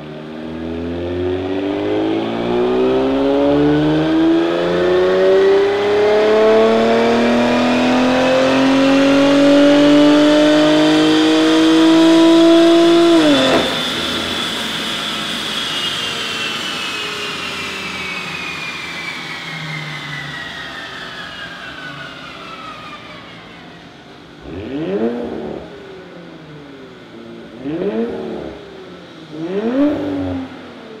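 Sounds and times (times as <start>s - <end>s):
car engine revving: 0.0s - 31.0s
high whine falling in pitch: 0.8s - 27.4s.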